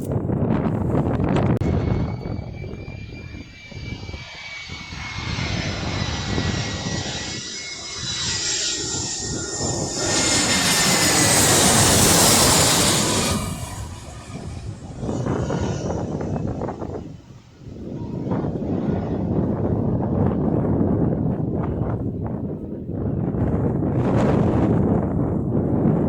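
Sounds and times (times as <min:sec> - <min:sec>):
jet airliner flying past: 0:00.0 - 0:26.0.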